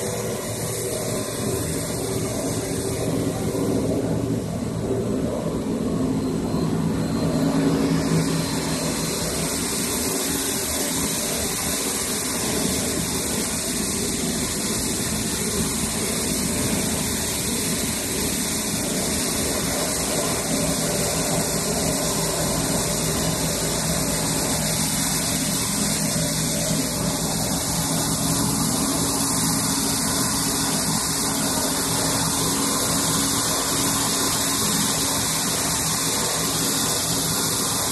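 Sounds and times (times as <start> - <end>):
low hum: 0.0 - 37.9
machine whirring and hissing: 0.0 - 37.9.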